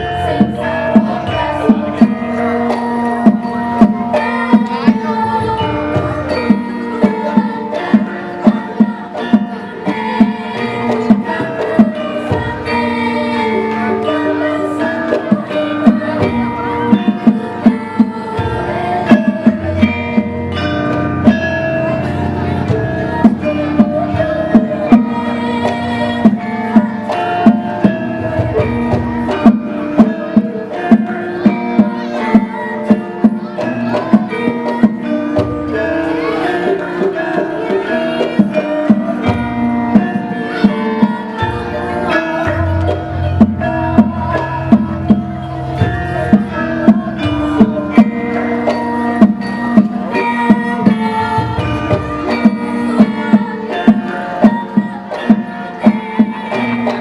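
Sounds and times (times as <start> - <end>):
drum strokes: 0.0 - 57.0
metallophones and gongs ringing: 0.0 - 57.0.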